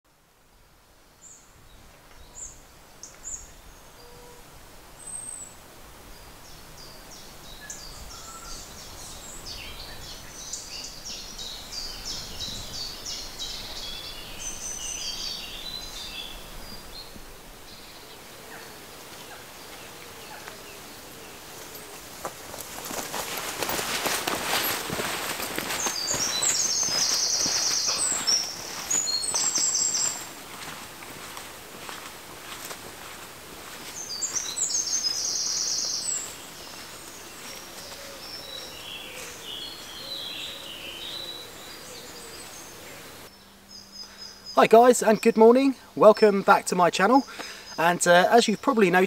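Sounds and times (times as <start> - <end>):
songbirds singing: 1.1 - 49.0.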